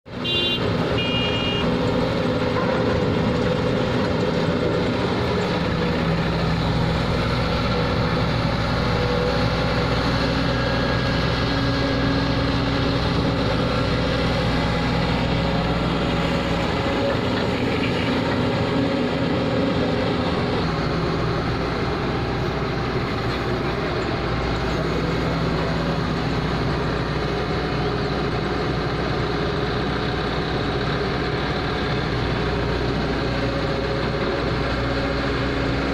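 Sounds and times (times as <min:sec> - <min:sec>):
heavy diesel engines running: 0:00.1 - 0:35.9.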